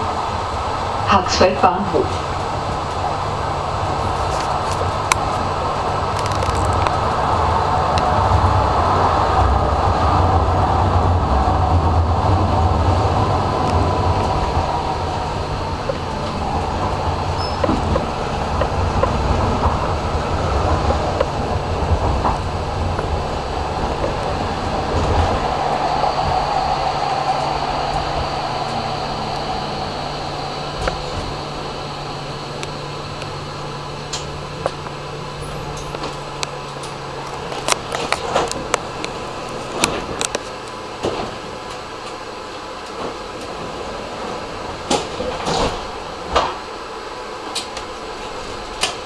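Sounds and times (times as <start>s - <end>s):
tram running noise and motor hum: 0.0s - 49.0s.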